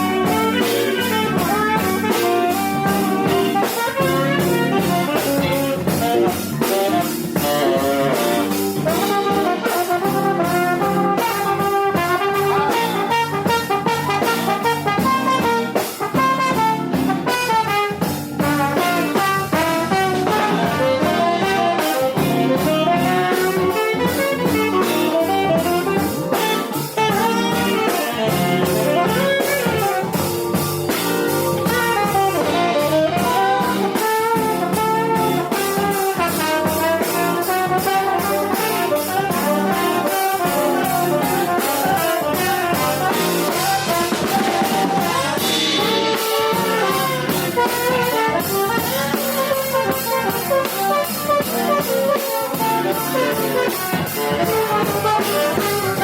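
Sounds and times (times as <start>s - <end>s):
drums and cymbals: 0.0s - 56.0s
horns playing melodic lines: 0.0s - 56.0s
jazz band playing: 0.0s - 56.0s.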